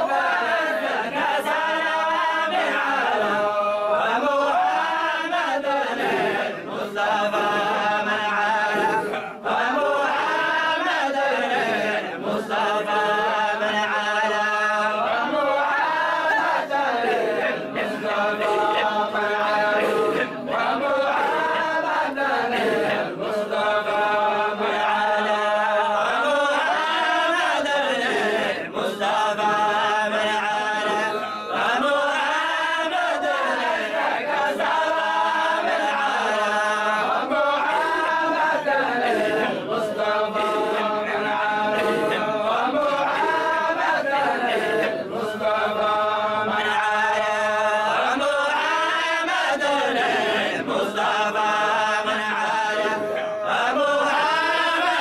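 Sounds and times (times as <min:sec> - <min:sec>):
group chanting in unison: 0:00.0 - 0:55.0.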